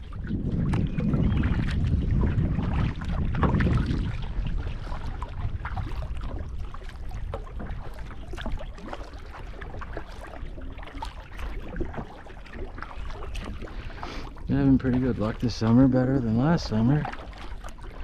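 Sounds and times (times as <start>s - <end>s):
light water sounds: 0.0s - 18.0s
wind rumbling on microphone: 0.0s - 18.0s.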